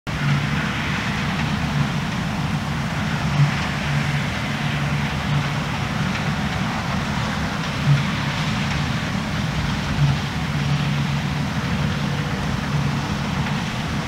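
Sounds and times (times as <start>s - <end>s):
combine harvester engine drone: 0.1s - 14.0s.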